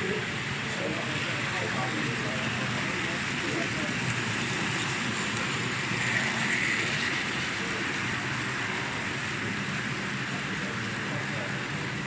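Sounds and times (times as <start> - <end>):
model train wagons rolling on track: 0.0 - 12.0.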